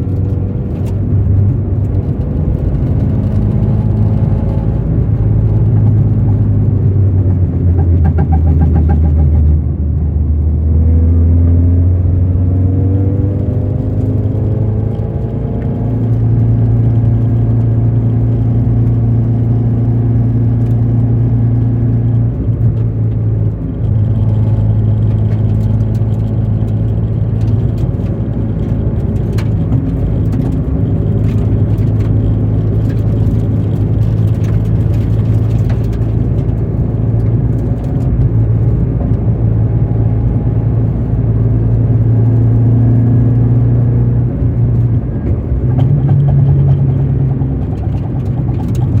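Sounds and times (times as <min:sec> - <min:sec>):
car engine drone while driving: 0:00.0 - 0:49.0.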